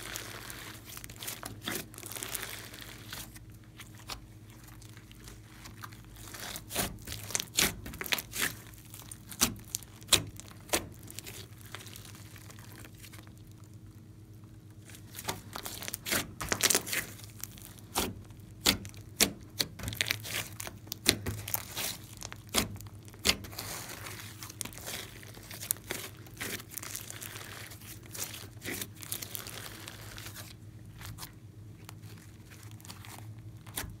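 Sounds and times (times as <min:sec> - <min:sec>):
slime squeezed with sticky pops: 0:00.1 - 0:13.6, 0:15.1 - 0:34.0.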